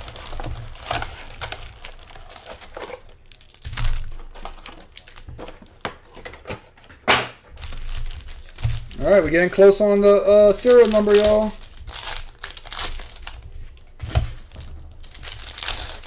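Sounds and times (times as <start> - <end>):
card pack wrappers crinkling: 0.0 - 6.8, 7.5 - 16.0.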